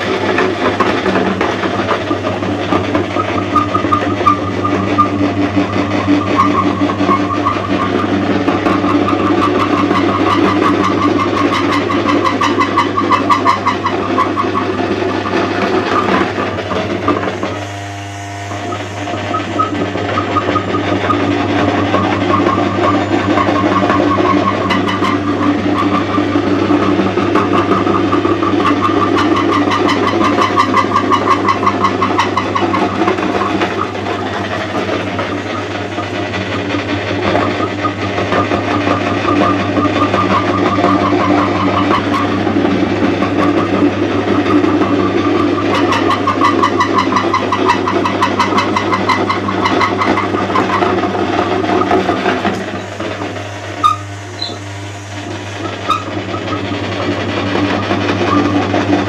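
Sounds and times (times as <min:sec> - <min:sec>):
grinder crushing soap: 0:00.0 - 0:59.0
motor hum: 0:00.0 - 0:59.0.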